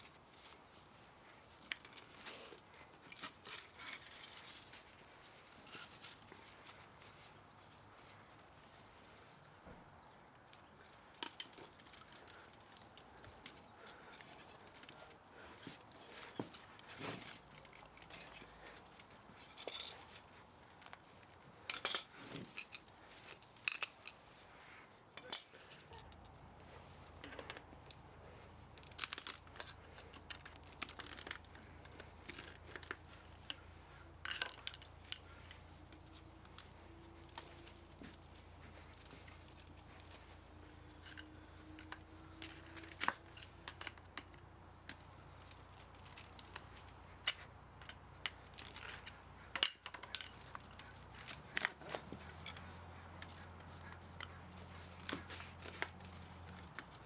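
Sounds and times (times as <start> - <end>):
clicks scrapes and crinkling: 0.0 - 57.0.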